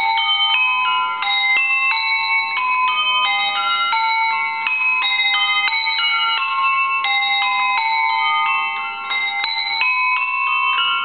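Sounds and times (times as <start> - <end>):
hand bells ringing changes: 0.0 - 11.0.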